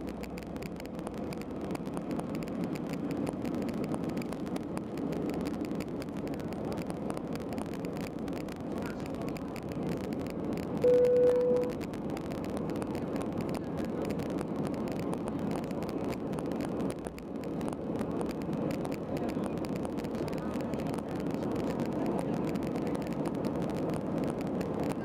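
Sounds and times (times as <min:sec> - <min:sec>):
jet engines roaring in cabin: 0:00.0 - 0:25.0.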